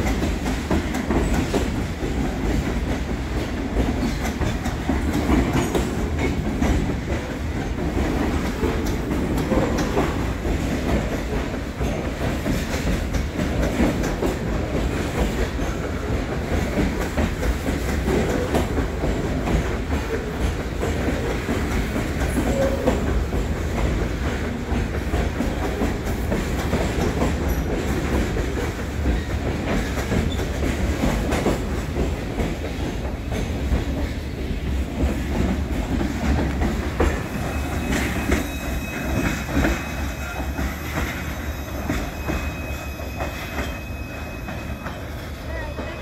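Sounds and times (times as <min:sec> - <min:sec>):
freight train rumble: 0:00.0 - 0:46.0
wheels clacking over rail joints: 0:00.0 - 0:46.0.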